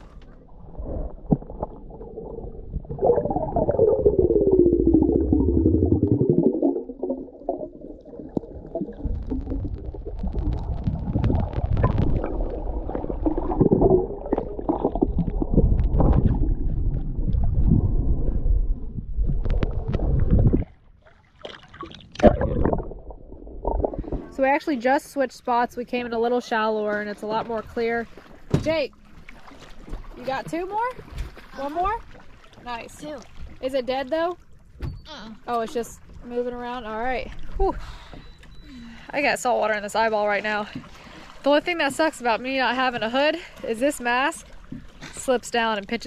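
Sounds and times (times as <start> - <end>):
underwater rumbling and gurgling: 0.0 - 26.1, 26.9 - 46.0.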